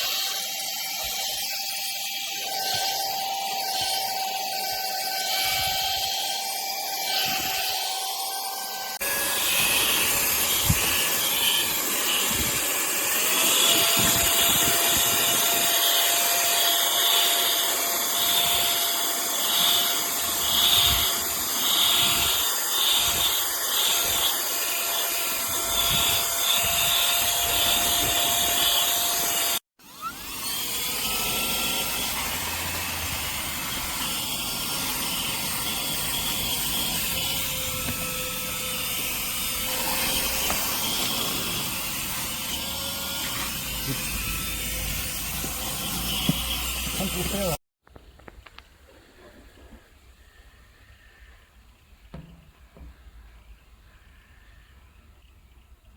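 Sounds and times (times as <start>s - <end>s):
handheld vacuum cleaner running: 0.0s - 47.6s.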